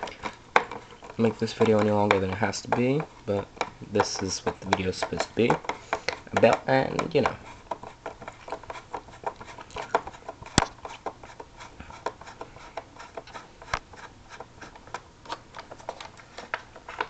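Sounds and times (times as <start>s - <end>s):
screwdriver clicking and scraping: 0.0s - 17.0s.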